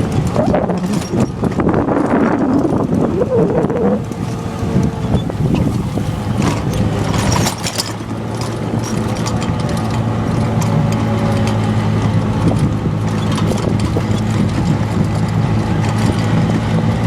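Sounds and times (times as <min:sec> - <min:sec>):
rattling clicks and knocks: 0:00.0 - 0:16.6
golf cart engine running: 0:00.0 - 0:17.0.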